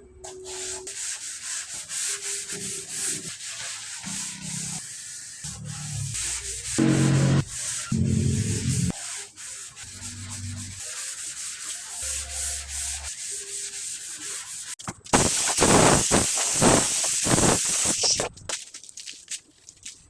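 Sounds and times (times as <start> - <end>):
sandpaper rubbing on filler: 0.3 - 18.3.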